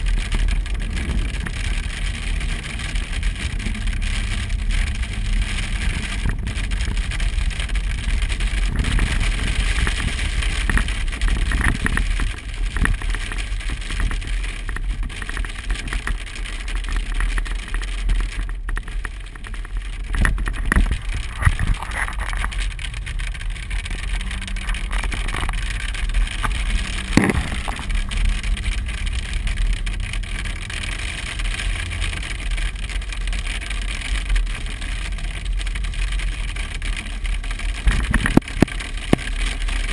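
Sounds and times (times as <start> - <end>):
car engine and road rumble: 0.0 - 39.9
hail ticking on car body: 0.0 - 39.9
rain and hail hissing: 0.0 - 39.9.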